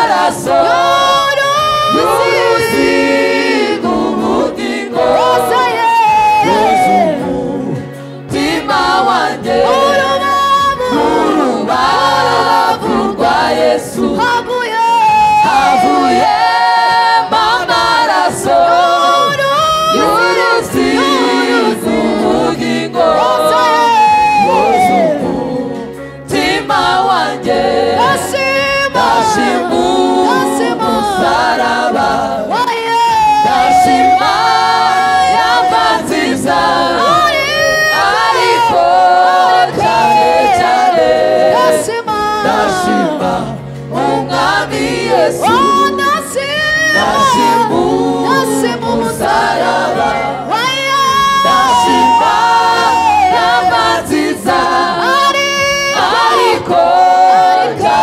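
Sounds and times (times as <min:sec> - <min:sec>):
choir singing gospel song: 0:00.0 - 0:58.0.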